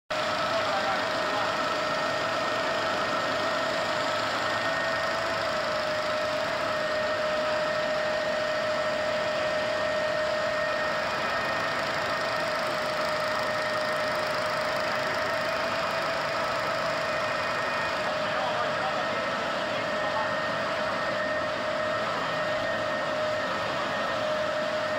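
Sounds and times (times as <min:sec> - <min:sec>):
label press machine running: 0:00.1 - 0:21.0
constant machine whine: 0:00.1 - 0:24.9.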